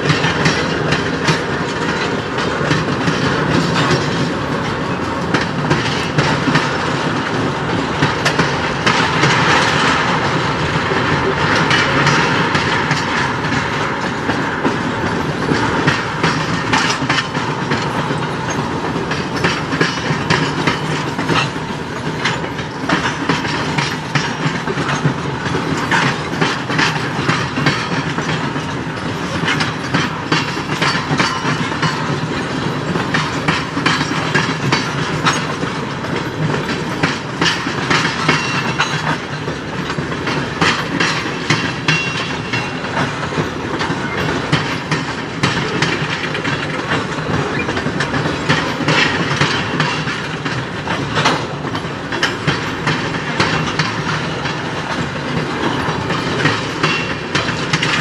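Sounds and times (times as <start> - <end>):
train rumble: 0.0 - 58.0
train wheels clacking over rail joints: 0.0 - 58.0.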